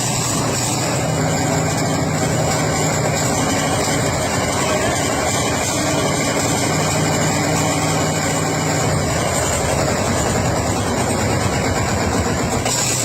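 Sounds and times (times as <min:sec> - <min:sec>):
vintage engine running: 0:00.0 - 0:13.0.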